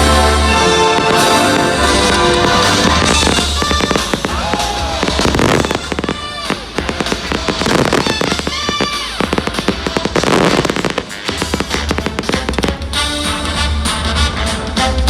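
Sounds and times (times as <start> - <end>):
fireworks bursting and crackling: 0.0 - 13.6
loud show music: 0.0 - 15.0.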